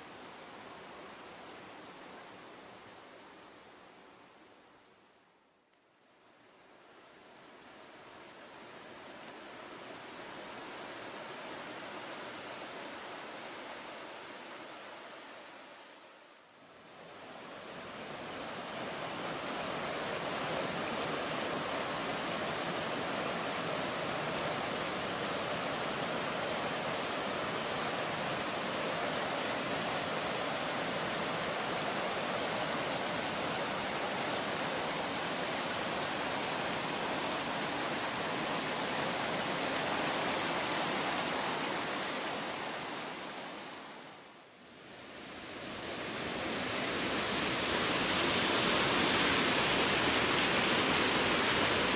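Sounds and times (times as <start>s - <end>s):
stream cascading over rocks: 0.0s - 5.0s, 6.4s - 51.9s.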